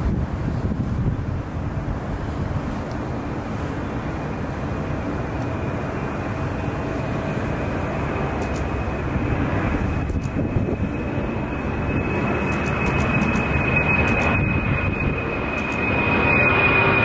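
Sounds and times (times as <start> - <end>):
faint jet whine: 0.0 - 17.0
jet engines rumble and rush: 0.0 - 17.0.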